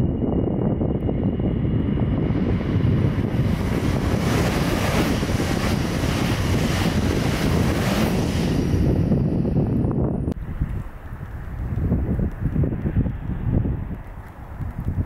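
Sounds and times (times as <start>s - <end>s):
high-speed train passing: 0.0s - 15.0s
wind buffeting microphone: 0.0s - 15.0s.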